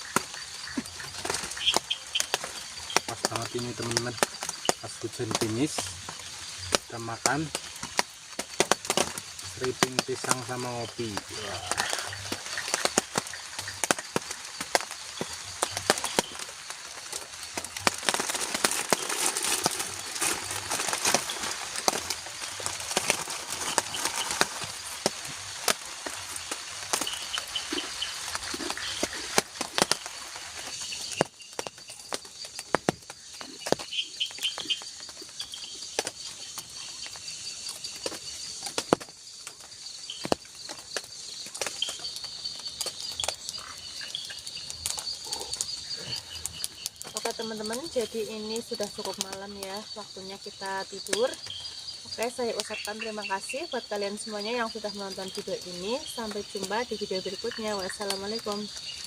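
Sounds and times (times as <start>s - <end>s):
drizzle pattering on roof: 0.0s - 59.0s
insects trilling: 0.0s - 59.0s.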